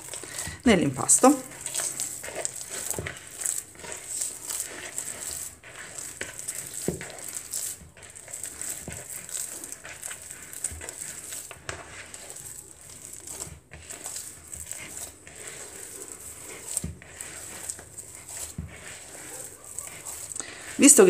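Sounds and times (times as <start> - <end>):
dough squishing while kneaded: 0.0 - 21.0.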